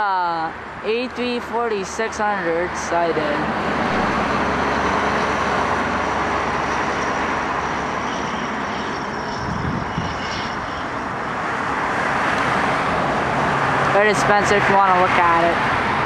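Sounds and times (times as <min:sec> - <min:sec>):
jet airliner engines rushing: 0:00.0 - 0:16.0.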